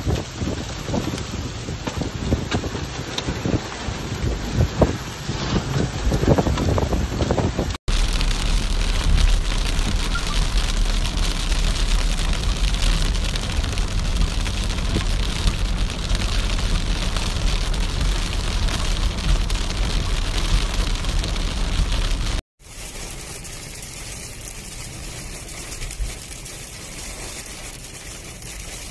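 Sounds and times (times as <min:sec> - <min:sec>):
low road rumble: 0:00.0 - 0:28.9
rain pattering on car windshield: 0:00.0 - 0:28.9.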